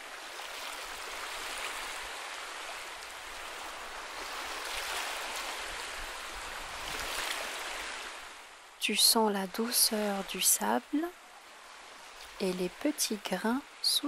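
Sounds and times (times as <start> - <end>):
ocean waves on a beach: 0.0 - 14.0.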